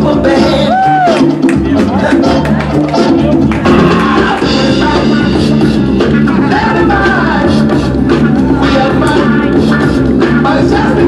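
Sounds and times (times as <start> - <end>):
loud music: 0.0 - 11.0.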